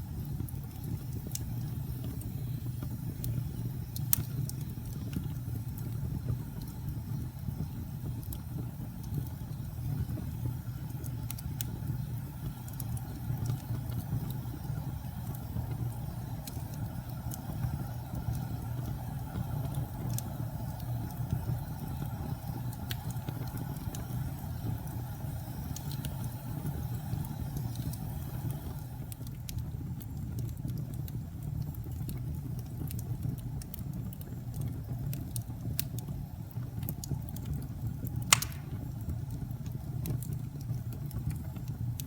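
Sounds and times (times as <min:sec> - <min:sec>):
fire flames rumbling: 0:00.0 - 0:42.0
wood crackling and popping: 0:00.0 - 0:42.0.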